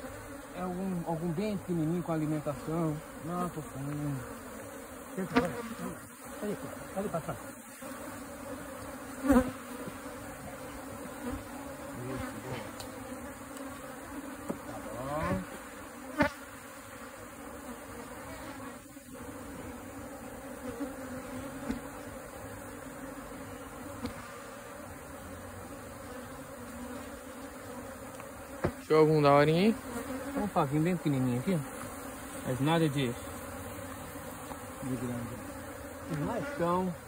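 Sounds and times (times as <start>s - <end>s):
bee buzzing past closely: 0.0s - 37.0s
bees buzzing: 0.0s - 37.0s.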